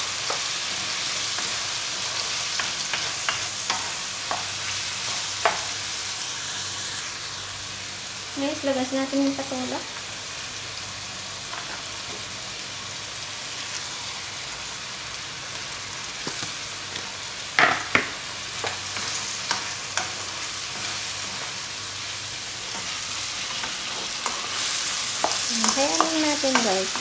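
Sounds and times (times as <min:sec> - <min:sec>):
food sizzling in a wok: 0:00.0 - 0:27.0.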